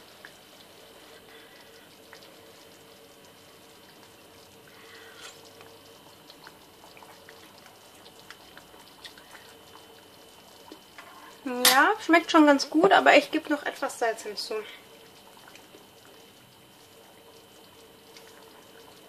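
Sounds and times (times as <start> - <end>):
bubbles popping in simmering dal: 0.0 - 19.0
faint steady hum: 0.0 - 19.0.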